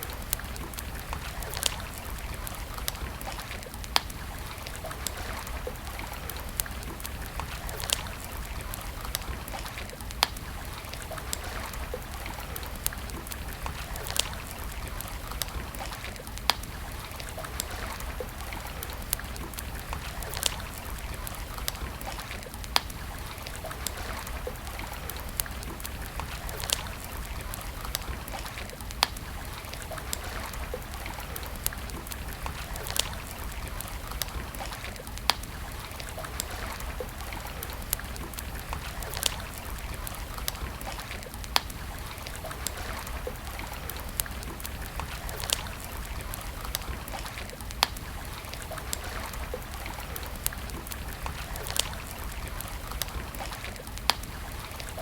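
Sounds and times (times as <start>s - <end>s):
campfire crackling and popping: 0.0s - 55.0s
flowing stream: 0.0s - 55.0s.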